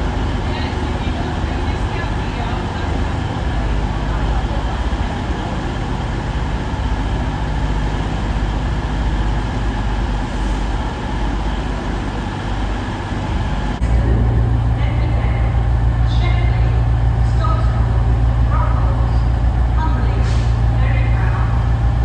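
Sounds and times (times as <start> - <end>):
diesel train engine humming: 0.0 - 22.0.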